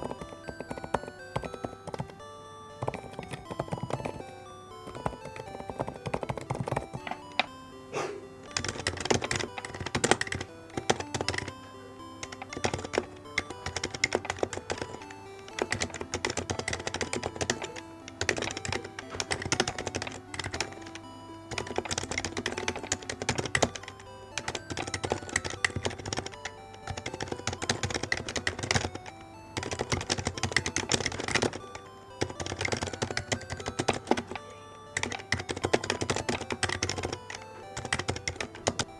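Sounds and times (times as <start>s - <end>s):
background music: 0.0s - 38.9s
typing on computer keyboard: 0.0s - 38.9s.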